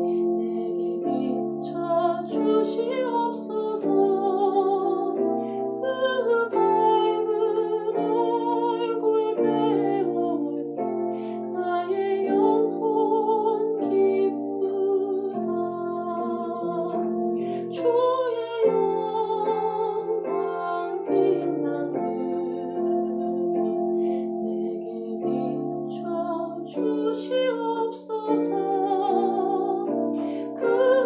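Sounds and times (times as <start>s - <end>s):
person singing a slow hymn: 0.0s - 31.0s
sustained keyboard chords: 0.0s - 31.0s.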